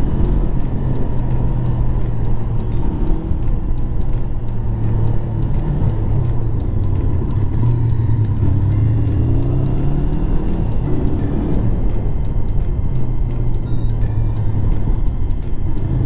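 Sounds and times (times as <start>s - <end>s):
background music with a beat: 0.0s - 16.0s
motorcycle engine running: 0.0s - 16.0s.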